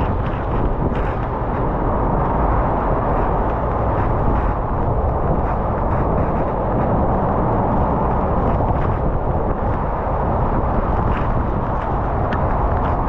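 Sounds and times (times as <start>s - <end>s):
road noise: 0.0s - 13.0s
wind rush on microphone: 0.0s - 13.0s.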